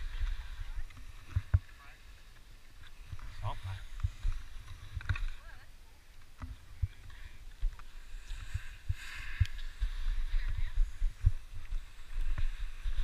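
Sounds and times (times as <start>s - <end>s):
wind rumbling on camera case: 0.0s - 1.8s, 2.8s - 13.0s.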